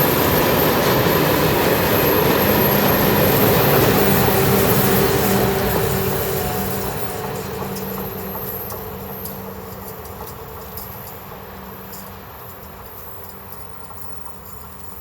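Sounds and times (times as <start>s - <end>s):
train humming: 0.0s - 15.0s.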